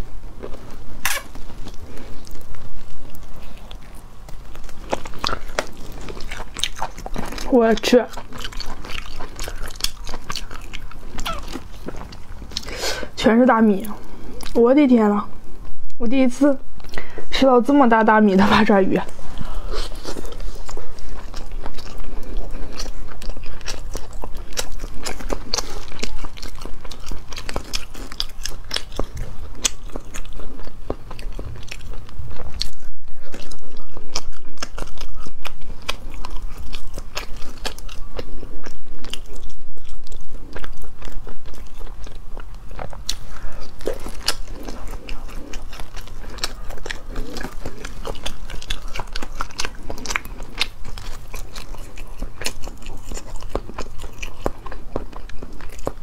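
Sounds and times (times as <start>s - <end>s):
biting and chewing octopus: 0.0s - 14.7s, 18.3s - 56.0s.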